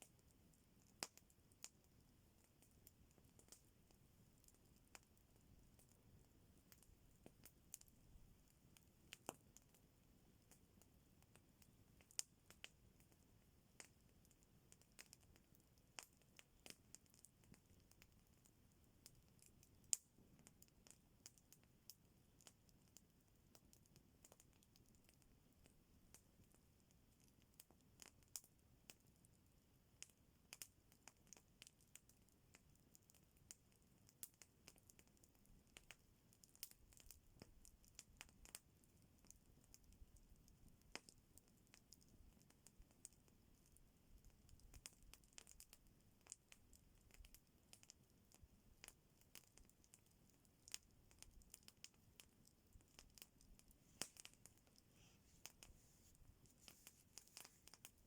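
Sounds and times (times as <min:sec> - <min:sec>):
campfire crackling: 0:00.1 - 0:09.8, 0:10.4 - 0:13.2, 0:13.8 - 0:26.5, 0:27.2 - 0:29.2, 0:30.0 - 0:58.0.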